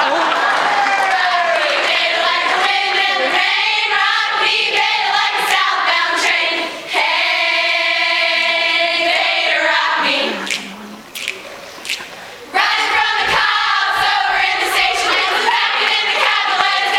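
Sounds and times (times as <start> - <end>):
choir of young women singing: 1.4 - 10.7, 12.5 - 16.9.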